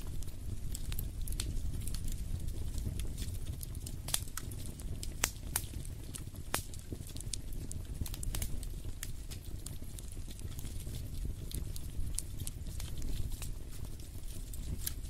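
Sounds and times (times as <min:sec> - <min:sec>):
fire low rumble: 0:00.0 - 0:15.0
wood fire crackling: 0:00.0 - 0:15.0.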